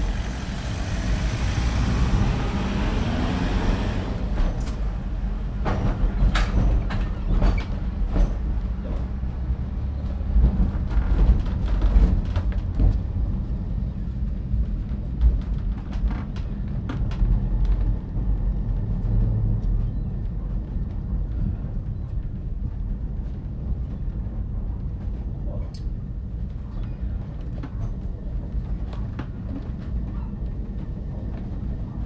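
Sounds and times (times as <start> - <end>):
tramcar rumbling on rails: 0.0 - 32.0.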